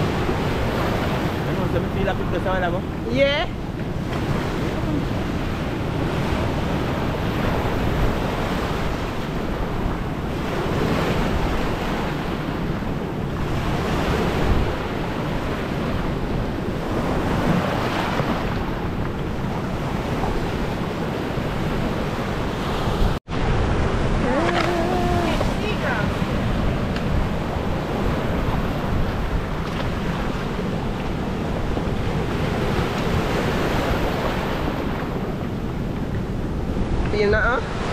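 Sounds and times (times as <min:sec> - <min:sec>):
surf washing on shore: 0:00.0 - 0:37.9
wind buffeting microphone: 0:00.0 - 0:37.9.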